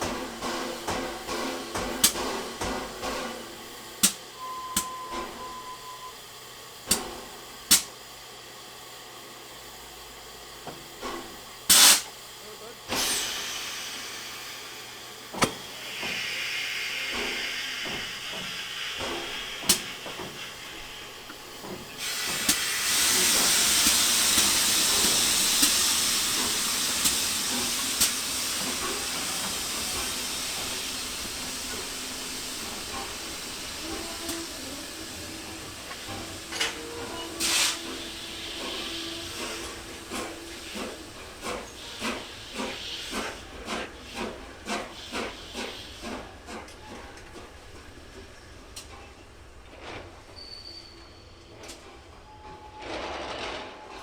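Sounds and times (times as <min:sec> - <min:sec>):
steam locomotive venting steam: 0:00.0 - 0:54.0.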